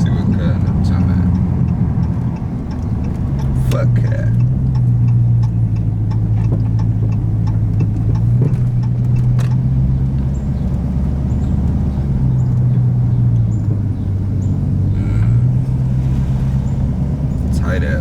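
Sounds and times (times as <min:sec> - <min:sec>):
car exhaust drone: 0:00.0 - 0:18.0.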